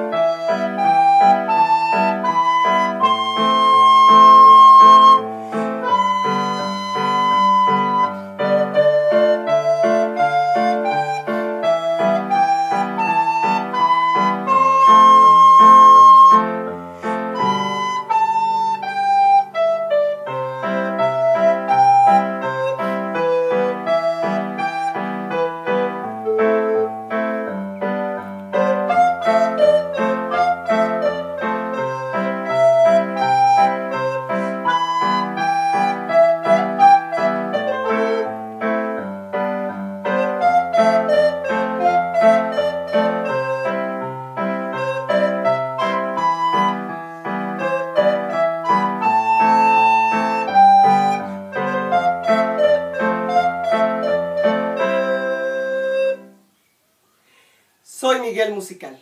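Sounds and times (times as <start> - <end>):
recorder playing melody: 0.0 - 56.4
piano chords: 0.0 - 56.5.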